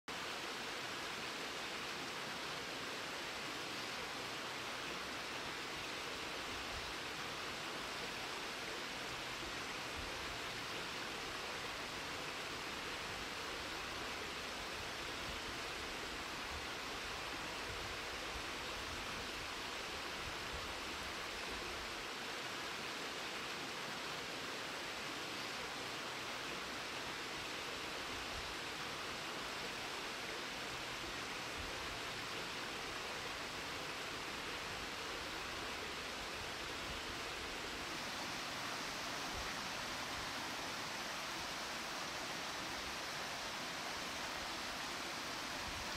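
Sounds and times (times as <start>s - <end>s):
mountain stream flowing over stones: 0.1s - 45.9s.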